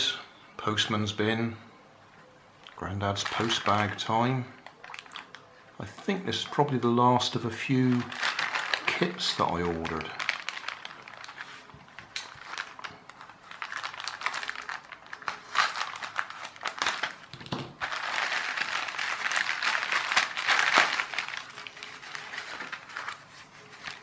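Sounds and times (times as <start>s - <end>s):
plastic mailer bag crinkling: 2.9s - 5.5s, 7.3s - 24.0s.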